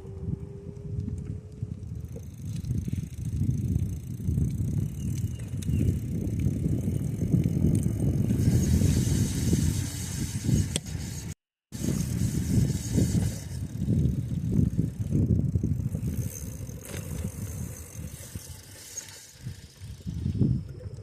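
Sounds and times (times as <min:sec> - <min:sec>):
bicycle tyres on dirt trail: 0:00.0 - 0:21.0
wind buffeting microphone: 0:00.0 - 0:21.0.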